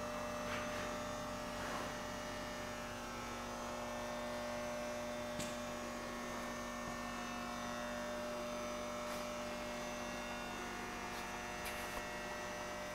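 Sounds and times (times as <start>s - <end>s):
electrical hum: 0.0s - 12.9s.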